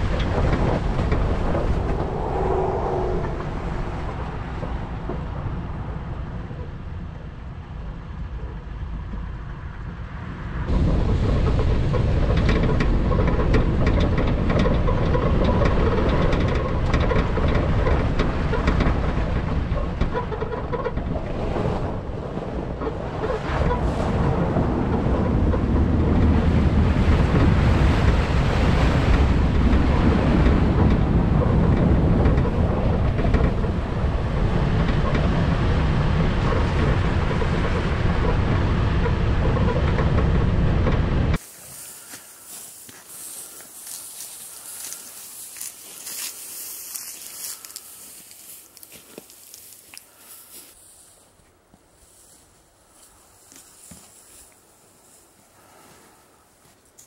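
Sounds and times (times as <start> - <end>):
wind on microphone: 0.0 - 7.9, 10.6 - 48.8
rumble of tyres on dirt road: 0.0 - 57.0.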